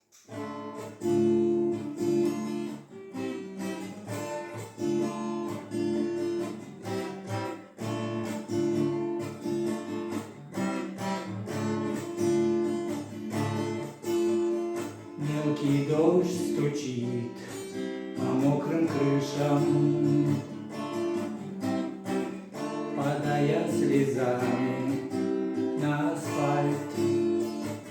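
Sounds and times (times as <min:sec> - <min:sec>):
acoustic guitar strumming: 0:00.1 - 0:27.9.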